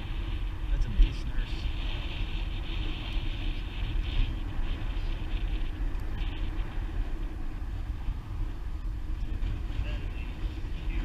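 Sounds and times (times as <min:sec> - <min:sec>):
highway traffic: 0:00.0 - 0:11.0
wind buffeting microphone: 0:00.0 - 0:11.0.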